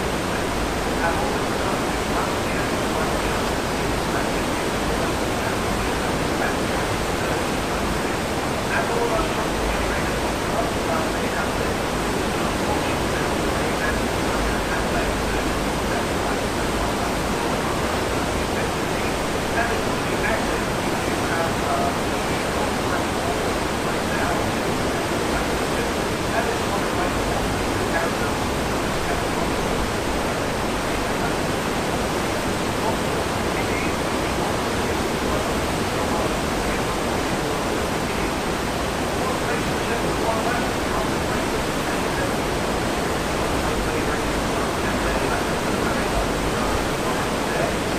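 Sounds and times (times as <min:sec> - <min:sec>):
ship wake rushing and churning: 0:00.0 - 0:47.9.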